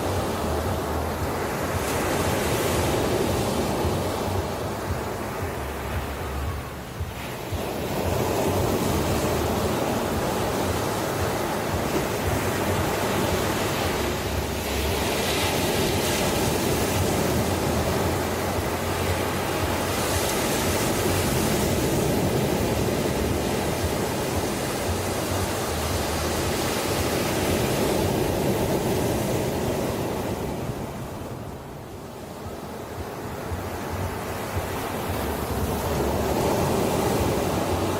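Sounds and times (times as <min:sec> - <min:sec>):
ocean waves on shore: 0:00.0 - 0:37.9.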